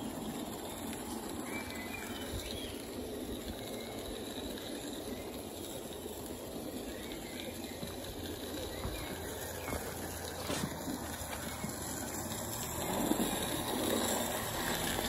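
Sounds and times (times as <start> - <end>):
model steam train running on rails: 0.0 - 15.0.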